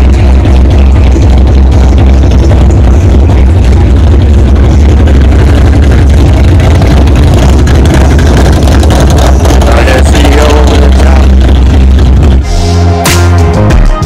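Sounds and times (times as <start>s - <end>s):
loud vehicle engine running: 0.0s - 14.0s.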